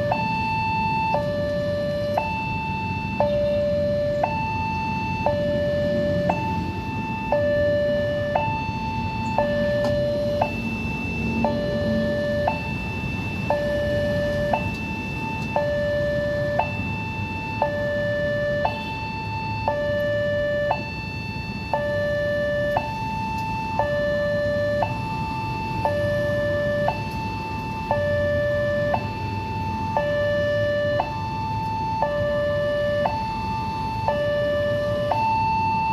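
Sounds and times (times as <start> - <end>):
level crossing two-tone alarm: 0.0 - 35.9.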